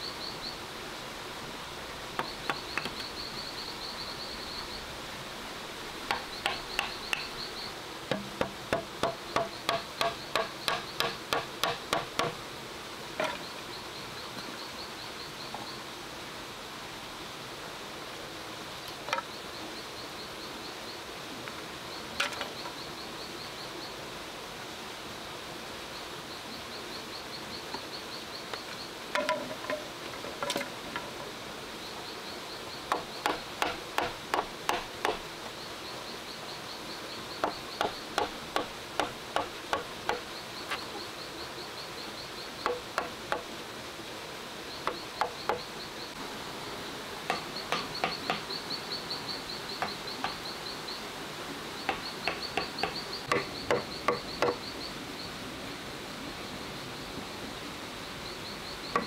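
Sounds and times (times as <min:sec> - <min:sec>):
insect chirping: 0:00.0 - 0:16.0, 0:18.9 - 0:24.3, 0:25.8 - 0:55.4, 0:56.4 - 0:59.0.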